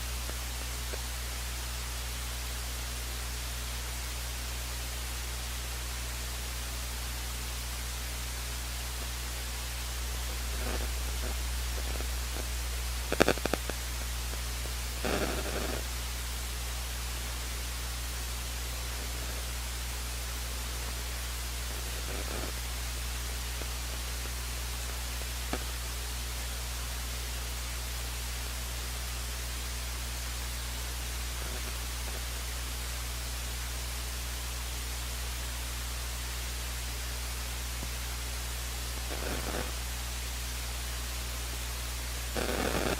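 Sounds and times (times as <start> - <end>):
low electrical hum: 0.0 - 42.9
steady hiss: 0.0 - 42.9.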